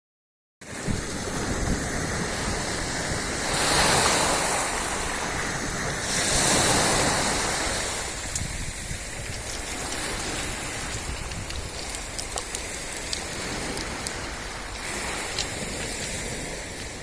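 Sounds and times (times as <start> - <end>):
sea waves washing onto shore: 0.6 - 17.0
wind buffeting microphone: 0.7 - 17.0.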